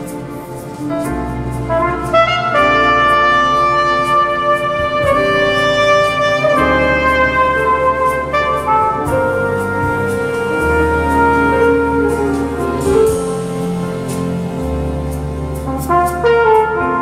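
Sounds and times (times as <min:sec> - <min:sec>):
horn-like chords over bass line: 0:00.0 - 0:17.0.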